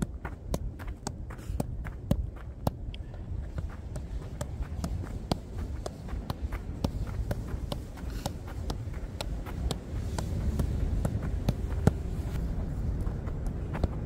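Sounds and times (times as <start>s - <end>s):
boot tapping football: 0.0s - 12.4s.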